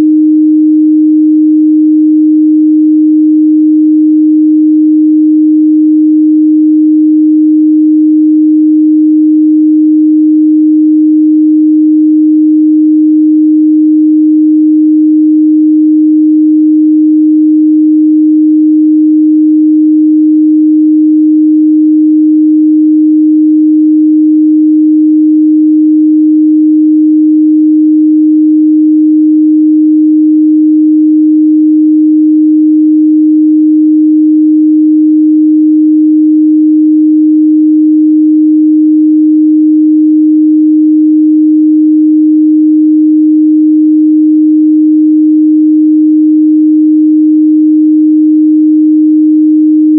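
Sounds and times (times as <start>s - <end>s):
sine-wave test tone: 0.0s - 49.9s.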